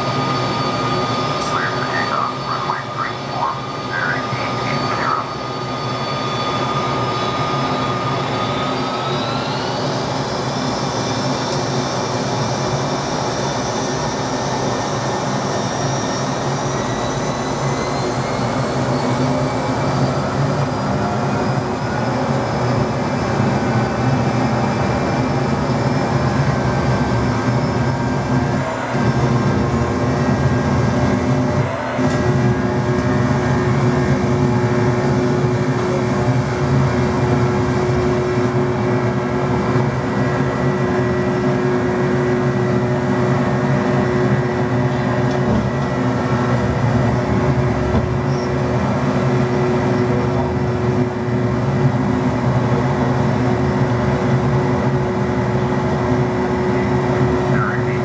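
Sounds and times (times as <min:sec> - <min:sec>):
jet engines spooling up: 0:00.0 - 0:58.0.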